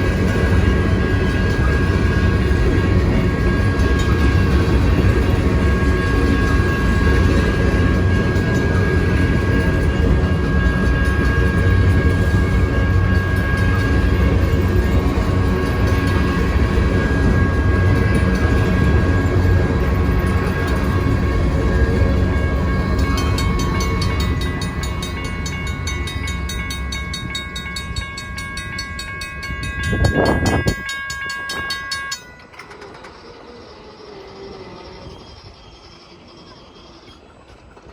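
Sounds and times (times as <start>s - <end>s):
steady high-pitched tones: 0.0s - 37.9s
train wheels rumbling on rail: 0.0s - 37.9s.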